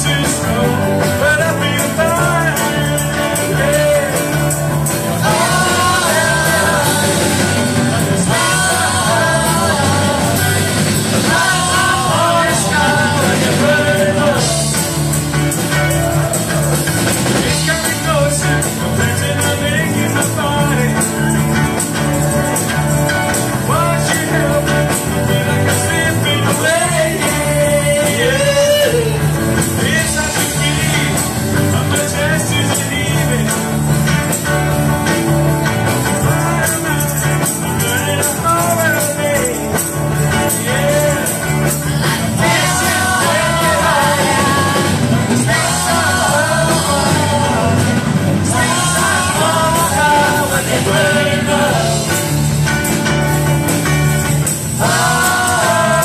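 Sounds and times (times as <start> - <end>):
lead singer singing: 0.0 - 21.8, 23.1 - 34.3, 36.0 - 56.0
rock band playing: 0.0 - 56.0.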